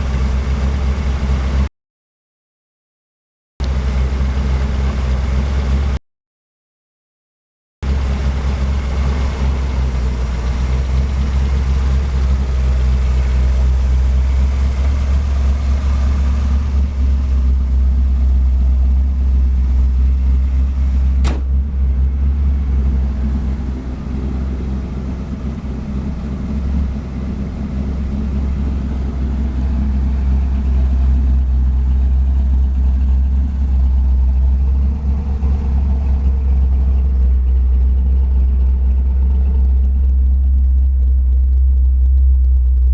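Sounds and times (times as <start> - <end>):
truck engine rumbling: 0.0 - 1.7, 3.6 - 6.0, 7.8 - 42.9.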